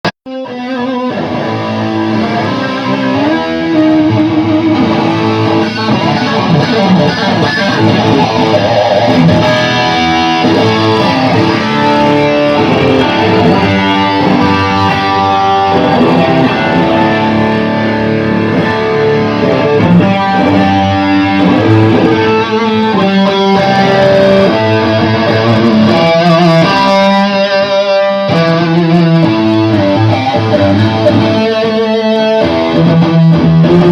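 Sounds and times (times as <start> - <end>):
electric guitar playing: 0.2 - 33.9.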